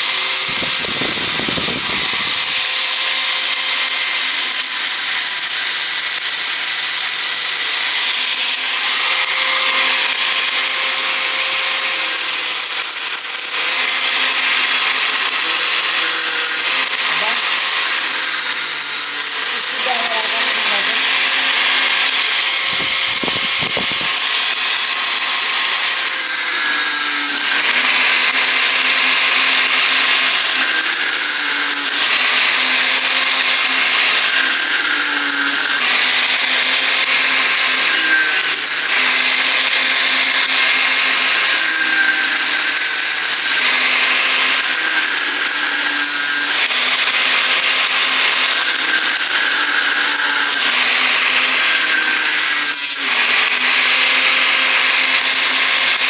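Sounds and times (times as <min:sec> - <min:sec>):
grinder cutting copper: 0:00.0 - 0:56.0.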